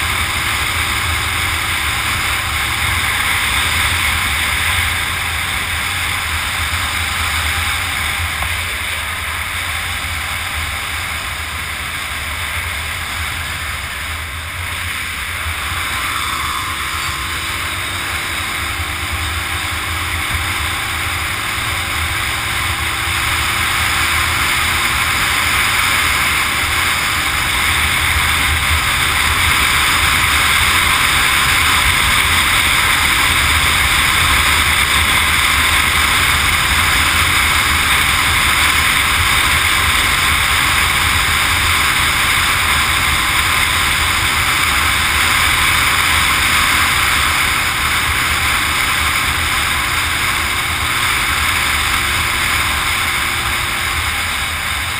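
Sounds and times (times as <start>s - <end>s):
motorcycle engine drone: 0.0s - 54.9s.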